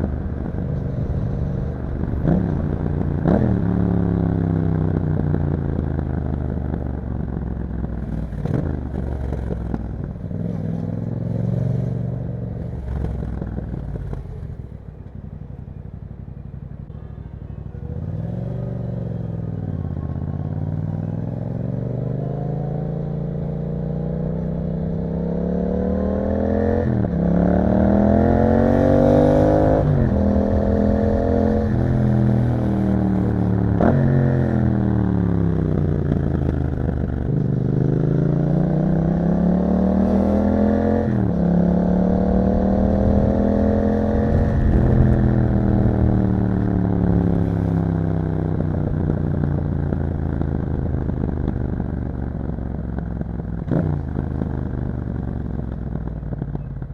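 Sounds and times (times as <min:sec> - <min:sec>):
motorcycle engine revving: 0:00.0 - 0:15.8, 0:16.4 - 0:56.9.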